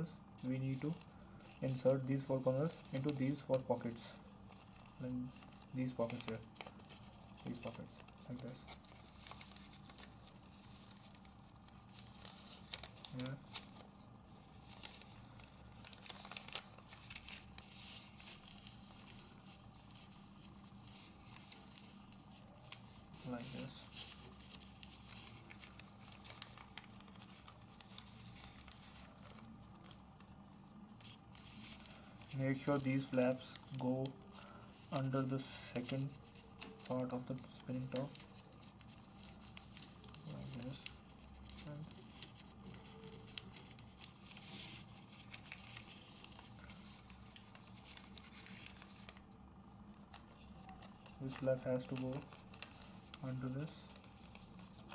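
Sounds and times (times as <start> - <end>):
paper rustling and crinkling: 0.0 - 54.9
small paper ticks: 4.6 - 49.3, 49.9 - 54.9.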